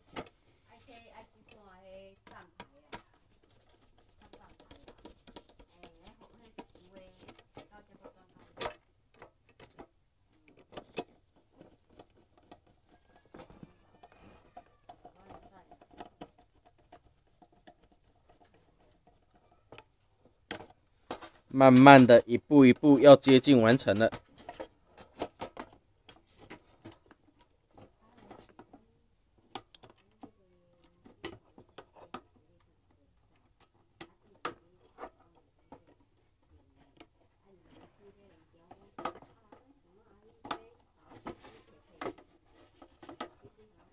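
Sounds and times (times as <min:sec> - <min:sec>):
plastic parts clicking and knocking: 0:00.0 - 0:00.4, 0:01.4 - 0:43.9.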